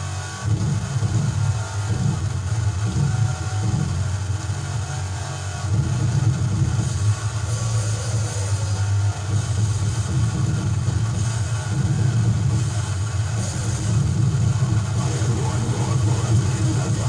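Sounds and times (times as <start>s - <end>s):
harsh noise music from vinyl record: 0.0s - 17.0s.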